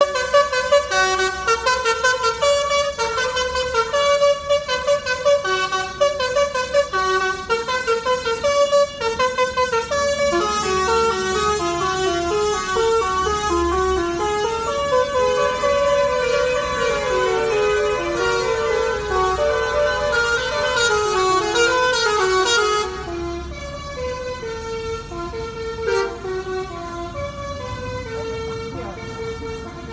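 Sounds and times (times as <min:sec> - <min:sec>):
musical air horn melody: 0:00.1 - 0:23.2, 0:25.0 - 0:26.7.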